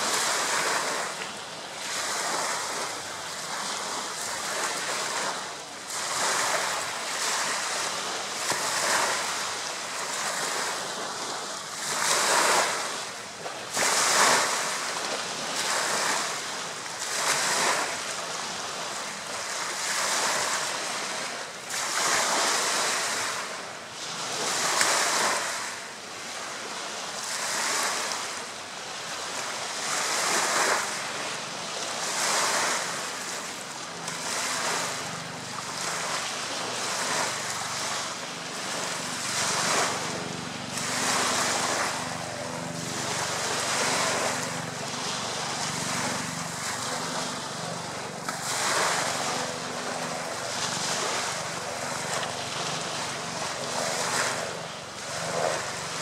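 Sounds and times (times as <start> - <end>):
waves washing onto pebbles: 0.0 - 56.0.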